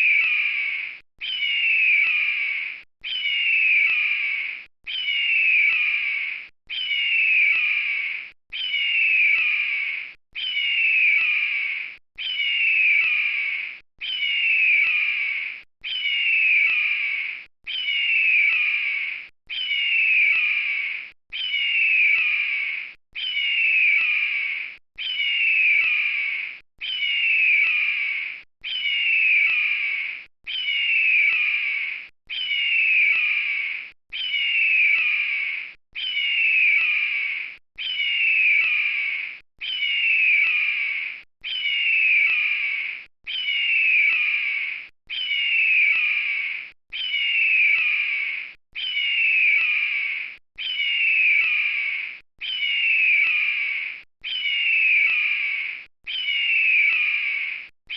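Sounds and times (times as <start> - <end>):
eagle call: 0.0 - 57.9.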